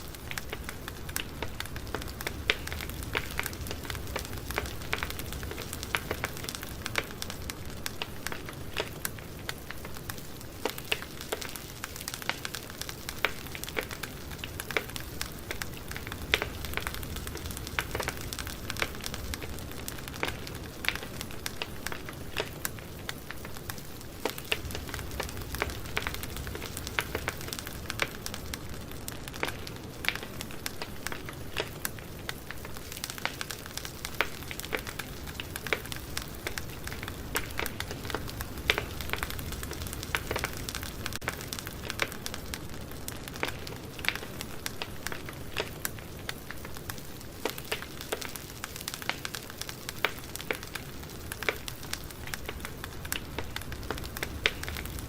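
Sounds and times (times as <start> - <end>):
fire hissing: 0.0 - 55.0
low rumble of flames: 0.0 - 55.0
wood crackling and popping: 0.0 - 55.0.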